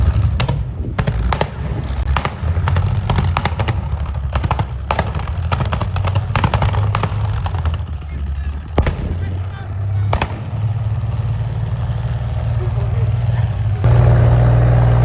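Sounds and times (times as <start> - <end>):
engine misfiring pops: 0.0 - 14.4
tank engine rumbling: 0.0 - 15.0.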